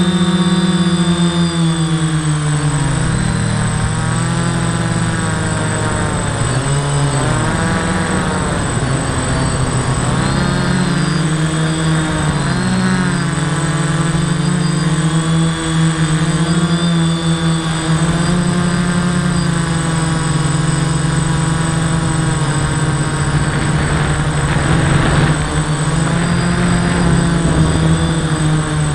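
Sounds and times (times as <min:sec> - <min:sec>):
faint high whine: 0:00.0 - 0:28.9
quadcopter motors buzzing: 0:00.0 - 0:28.9.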